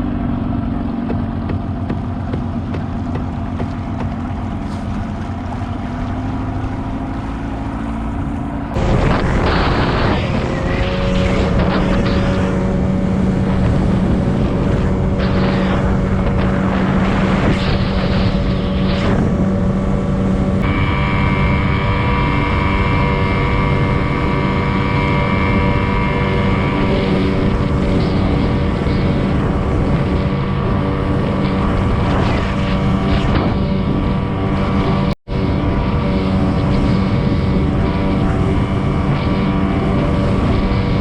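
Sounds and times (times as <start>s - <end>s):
high steady whine: 0.0s - 41.0s
outboard motor running: 0.0s - 41.0s
wind on microphone: 2.4s - 41.0s.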